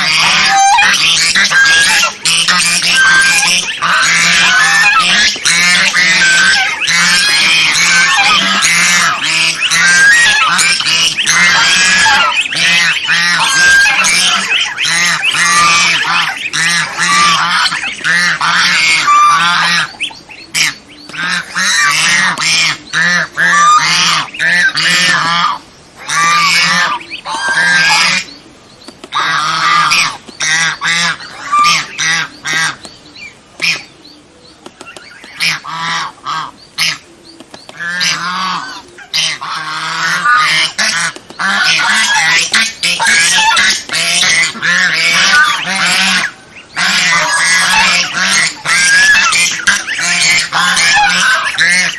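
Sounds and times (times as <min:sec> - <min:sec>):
geese honking: 0:00.0 - 0:28.3, 0:29.1 - 0:32.8, 0:35.0 - 0:37.1, 0:37.7 - 0:51.9.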